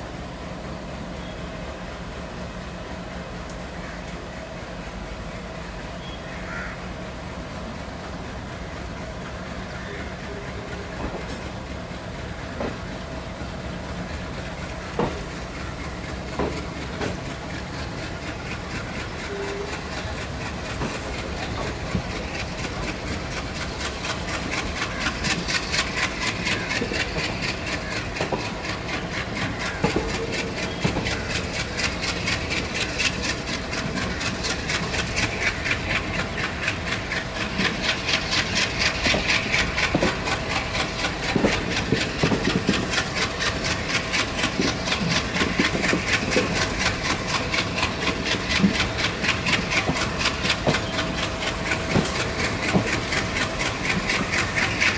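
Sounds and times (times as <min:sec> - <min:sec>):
diesel locomotive chugging: 0:00.0 - 0:54.9.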